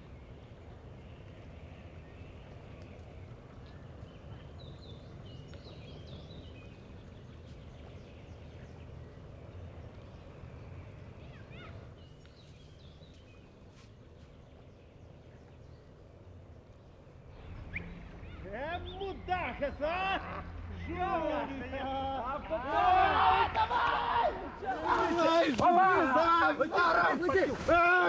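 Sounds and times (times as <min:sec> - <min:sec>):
steady low rumble: 0:00.0 - 0:24.8
small birds chirping: 0:00.0 - 0:28.0.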